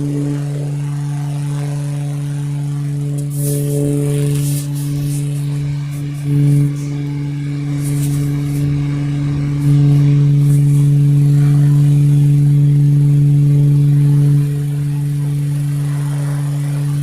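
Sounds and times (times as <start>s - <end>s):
electric fan motor hum: 0.0s - 17.0s.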